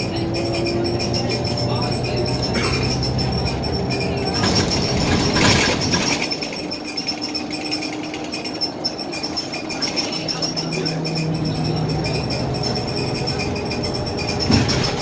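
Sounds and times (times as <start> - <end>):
bus engine and road noise: 0.0 - 15.0
interior panels rattling: 1.7 - 15.0.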